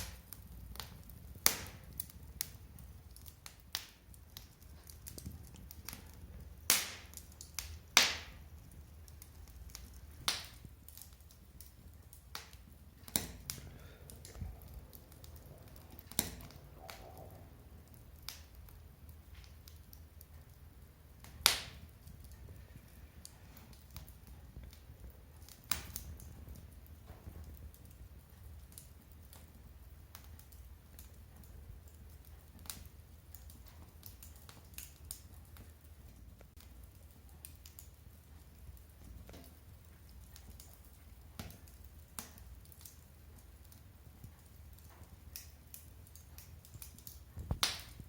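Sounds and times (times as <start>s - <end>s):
firewood crackling and popping: 0.0s - 48.0s.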